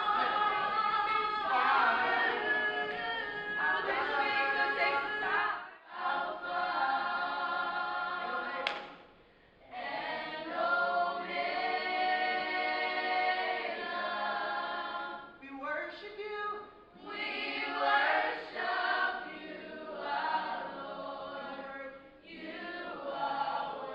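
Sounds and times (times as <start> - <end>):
choir singing in harmony: 0.0 - 9.0, 9.6 - 15.4, 16.9 - 23.9.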